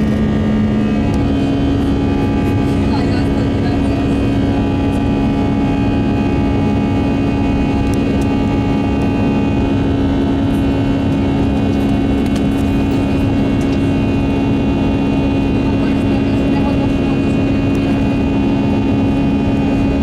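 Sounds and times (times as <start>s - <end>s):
jet engine cabin drone: 0.0s - 20.0s.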